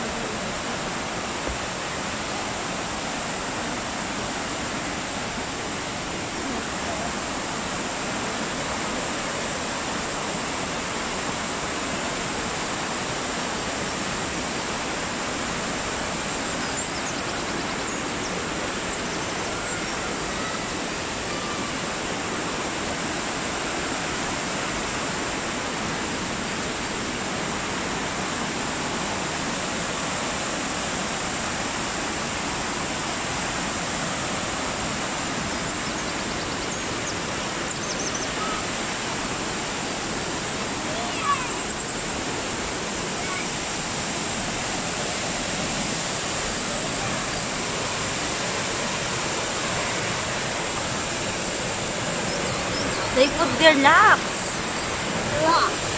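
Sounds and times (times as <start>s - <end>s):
waterfall cascading over rocks: 0.0s - 55.9s.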